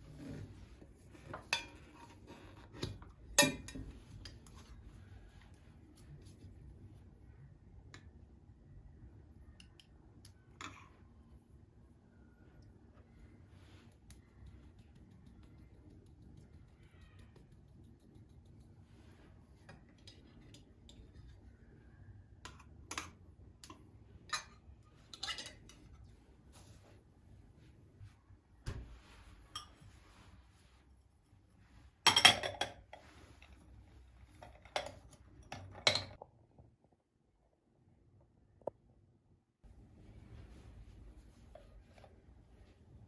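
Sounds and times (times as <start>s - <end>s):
low room hum: 0.0s - 43.0s.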